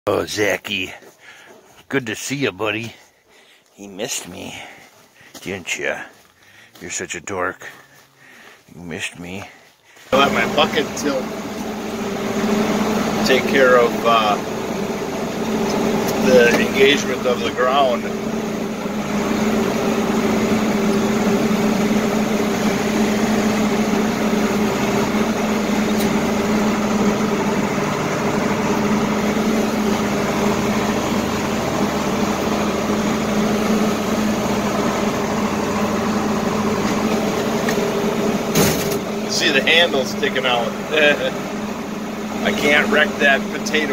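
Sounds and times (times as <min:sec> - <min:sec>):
tractor engine running: 0:00.1 - 0:43.9.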